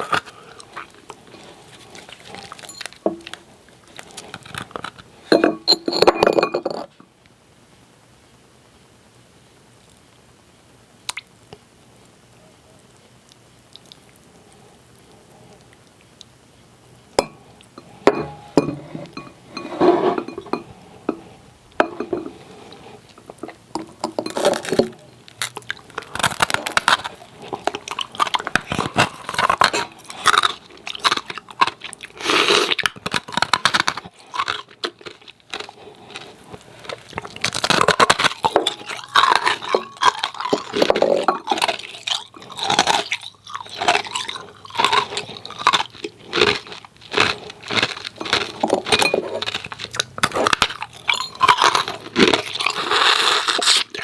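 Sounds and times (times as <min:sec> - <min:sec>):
ice cubes being chewed: 0:00.0 - 0:06.9, 0:17.2 - 0:54.0.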